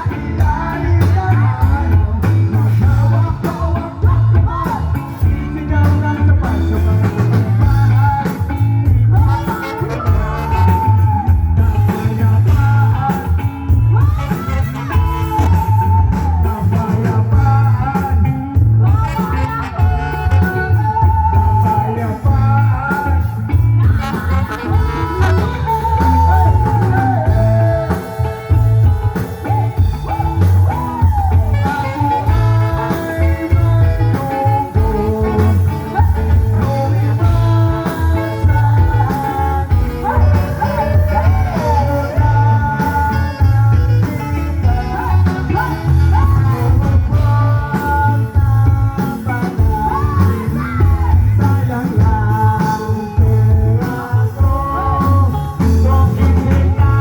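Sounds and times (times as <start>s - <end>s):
guitar: 0.0s - 57.0s
person singing: 0.0s - 57.0s
rock music: 0.0s - 57.0s.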